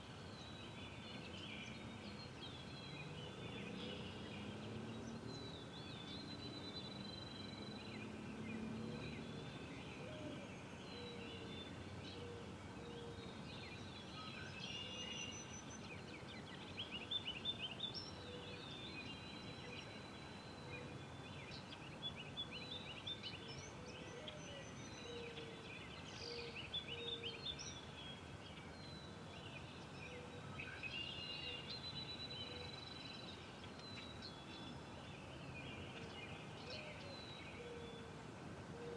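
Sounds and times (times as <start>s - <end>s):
songbirds singing and chirping: 0.0s - 38.9s
steady outdoor hiss: 0.0s - 38.9s.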